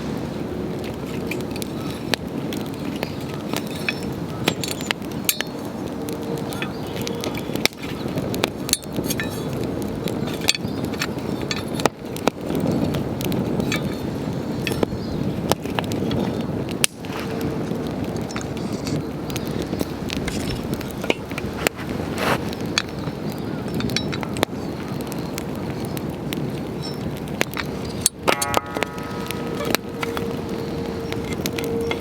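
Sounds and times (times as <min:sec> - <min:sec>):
campfire crackling and popping: 0:00.0 - 0:32.0
low rushing fire sound: 0:00.0 - 0:32.0.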